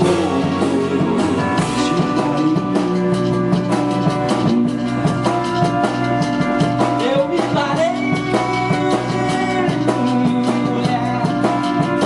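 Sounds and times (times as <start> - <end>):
band playing instrumental passage: 0.0 - 12.0.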